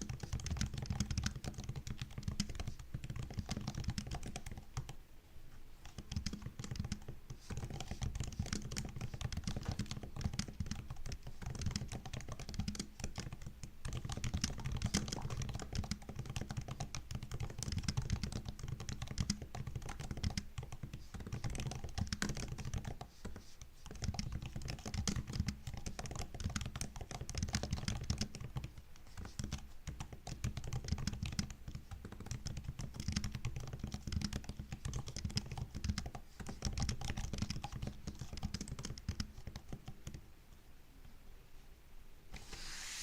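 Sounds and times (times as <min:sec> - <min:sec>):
laptop keyboard typing: 0:00.0 - 0:05.0, 0:05.8 - 0:40.2.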